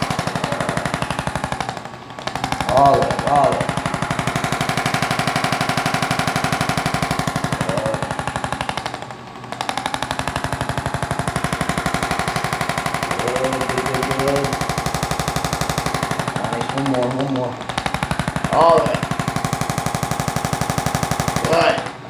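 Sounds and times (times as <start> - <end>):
rapid mechanical pulsing: 0.0 - 22.0.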